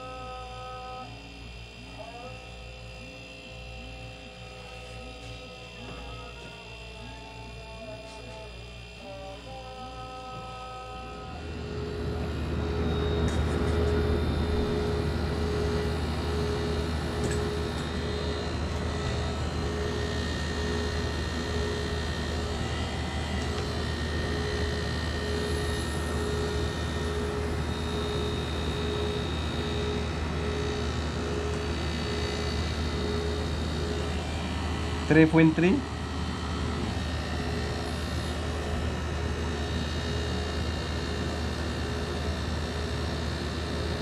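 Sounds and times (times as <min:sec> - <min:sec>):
air conditioner humming: 0:00.0 - 0:44.0
faint pulsing tone: 0:00.0 - 0:44.0.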